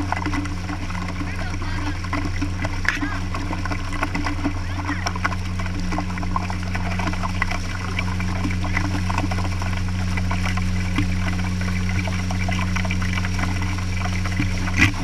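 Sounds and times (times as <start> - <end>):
low engine hum: 0.0 - 15.0
water splashing against boat hull: 0.0 - 15.0.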